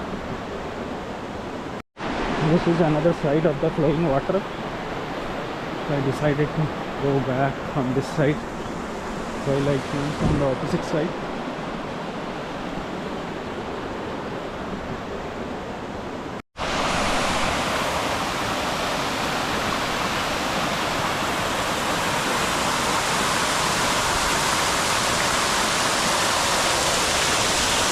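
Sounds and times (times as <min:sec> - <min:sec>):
stream and waterfall rushing: 0:00.0 - 0:27.9.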